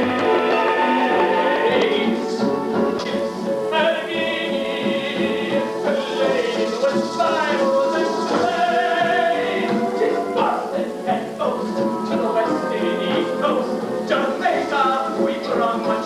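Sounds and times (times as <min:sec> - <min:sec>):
orchestra accompaniment: 0:00.0 - 0:16.0.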